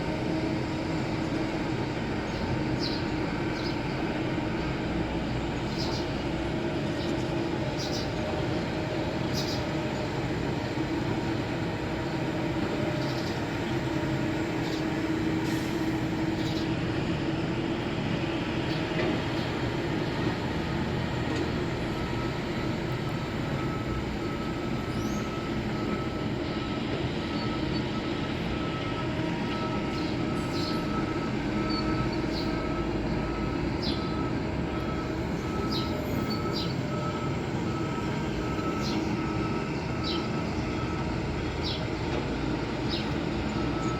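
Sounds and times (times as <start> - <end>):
diesel machinery engine drone: 0.0 - 43.9.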